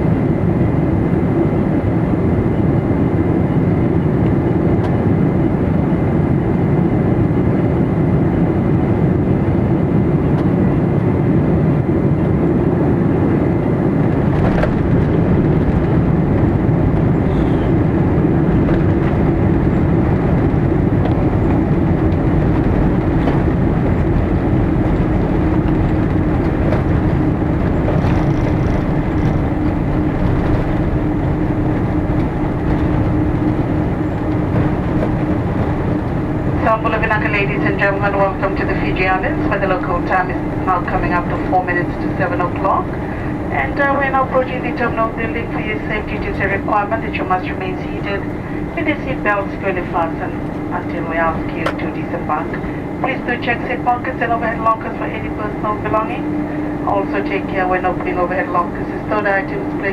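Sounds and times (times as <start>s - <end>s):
aircraft cabin rumble: 0.0s - 59.9s
low hum: 0.0s - 59.9s.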